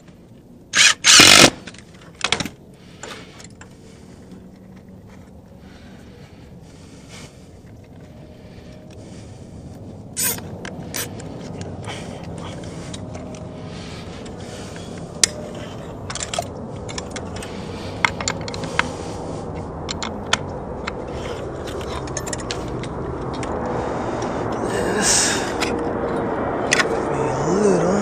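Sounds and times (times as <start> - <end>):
steady background rush: 0.0 - 28.0.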